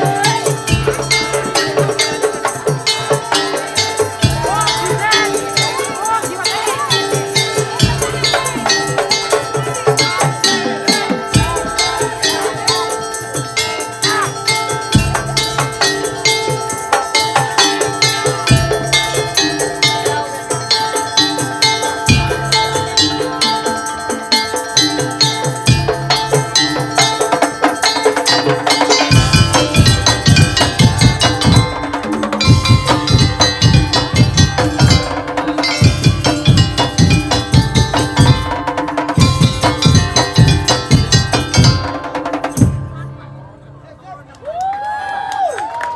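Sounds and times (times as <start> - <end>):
heavy bass drum beats: 0.0 - 43.2
wood-block-like percussion strikes: 0.0 - 43.3
ringing pitched tones: 0.0 - 44.0
percussion ensemble playing fast rhythm: 0.0 - 44.7.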